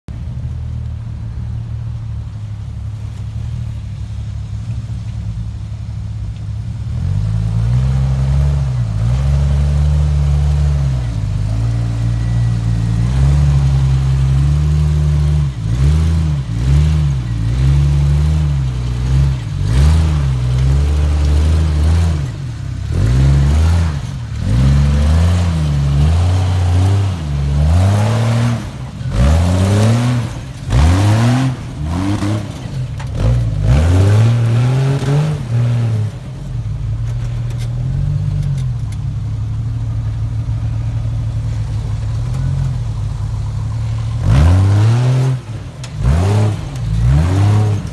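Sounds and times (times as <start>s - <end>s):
engine idling and revving: 0.0s - 47.9s.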